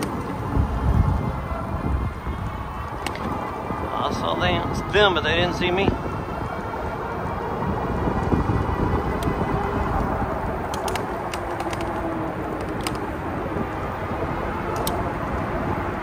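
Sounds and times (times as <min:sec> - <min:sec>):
tyre noise on pavement: 0:00.0 - 0:16.0
wind rush on microphone: 0:00.0 - 0:16.0.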